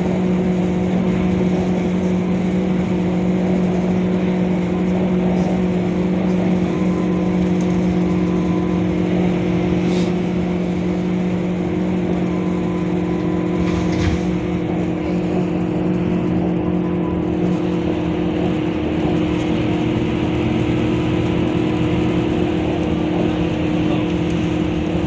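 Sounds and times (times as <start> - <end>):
bus diesel engine droning: 0.0 - 25.0.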